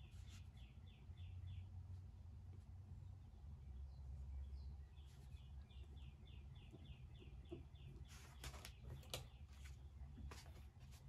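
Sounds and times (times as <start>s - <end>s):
bird chirping: 0.0s - 10.7s
low steady hum: 0.0s - 11.0s.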